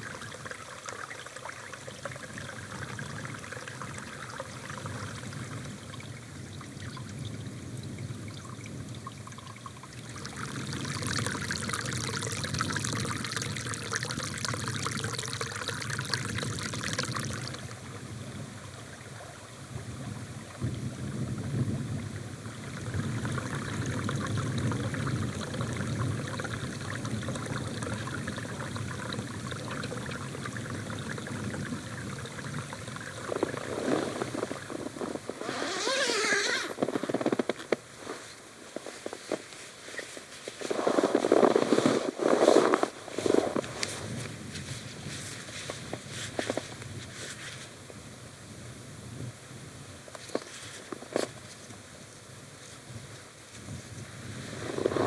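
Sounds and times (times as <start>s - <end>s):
stream trickling and splashing: 0.0s - 48.6s.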